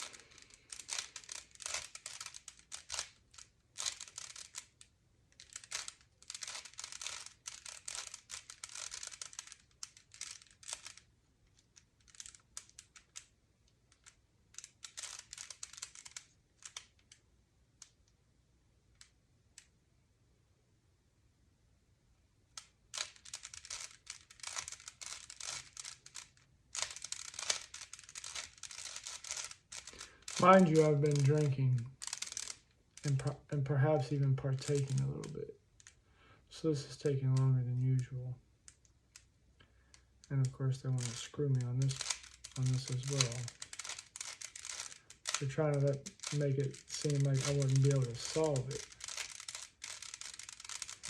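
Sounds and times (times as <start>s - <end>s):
plastic puzzle cube clicking: 0.0s - 18.2s, 22.5s - 33.5s, 34.3s - 36.0s, 40.8s - 51.0s.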